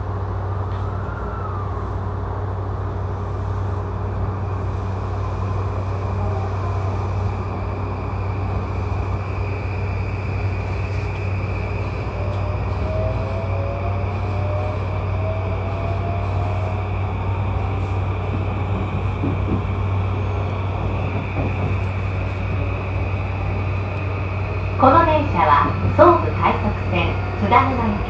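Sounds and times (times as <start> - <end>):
electric train running hum: 0.0 - 28.0.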